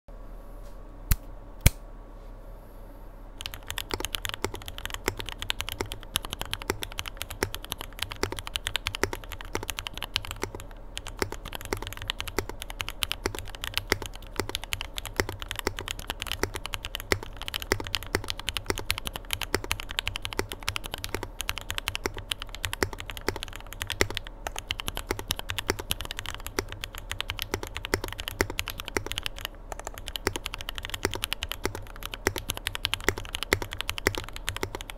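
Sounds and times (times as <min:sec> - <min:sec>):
fast typing on mechanical keyboard: 0:03.4 - 0:34.9.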